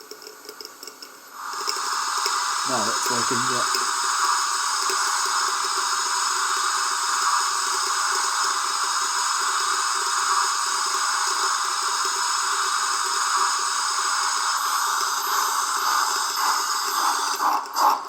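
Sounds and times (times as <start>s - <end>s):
steam hiss from small speaker: 0.0s - 18.0s.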